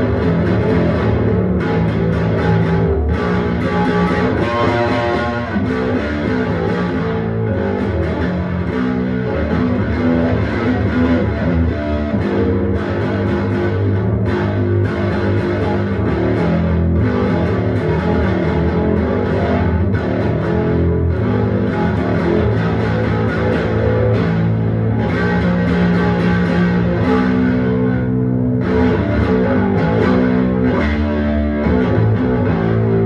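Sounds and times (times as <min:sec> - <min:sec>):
electric bass guitar: 0:00.0 - 0:33.0
heavy rock song: 0:00.0 - 0:33.0.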